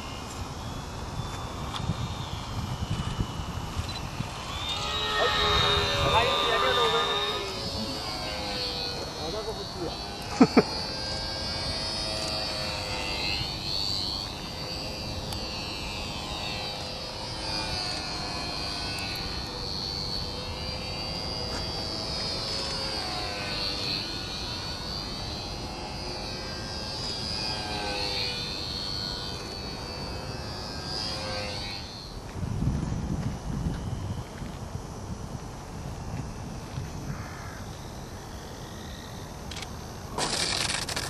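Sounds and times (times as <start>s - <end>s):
model plane motor whining: 0.0s - 41.0s.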